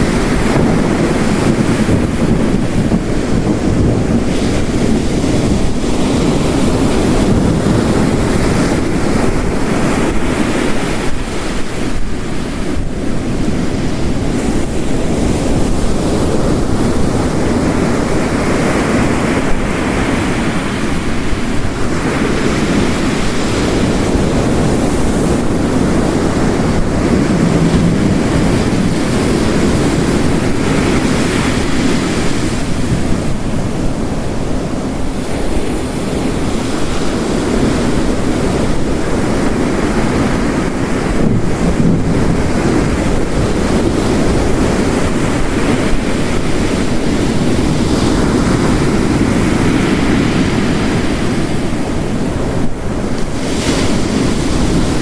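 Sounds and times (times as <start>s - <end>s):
heavy rain: 0.0s - 55.0s
ocean waves crashing: 0.0s - 55.0s.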